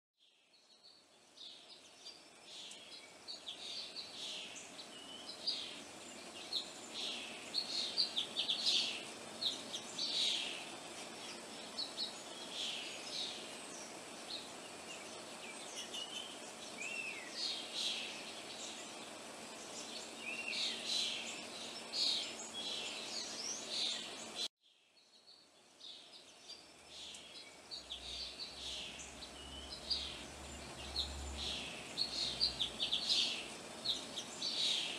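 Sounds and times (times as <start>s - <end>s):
small birds chirping: 0.2s - 34.9s
faint steady hum: 0.3s - 34.9s.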